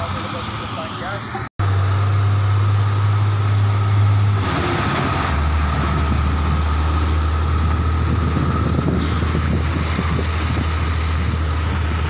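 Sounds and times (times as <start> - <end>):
diesel trucks passing: 0.0 - 12.0.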